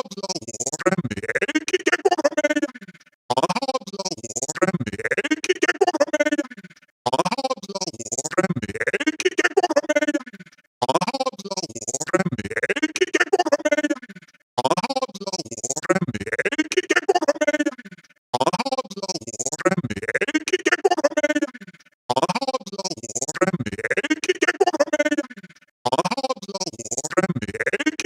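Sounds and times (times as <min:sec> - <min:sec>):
stuttering robotic voices: 0:00.0 - 0:28.0.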